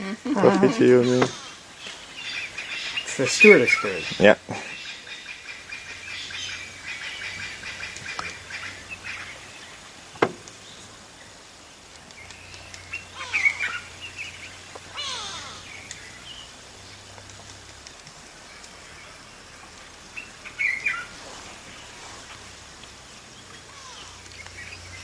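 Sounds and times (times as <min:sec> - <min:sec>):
birds chirping and whistling: 0:00.7 - 0:11.4, 0:12.0 - 0:17.1, 0:20.1 - 0:25.0.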